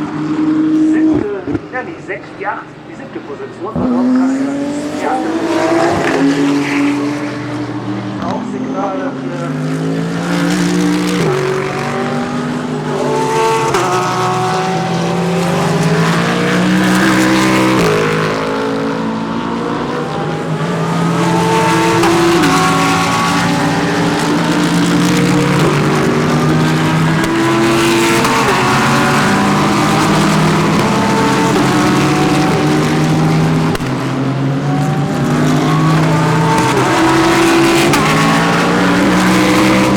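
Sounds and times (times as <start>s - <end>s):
race cars passing at high revs: 0.0s - 39.9s.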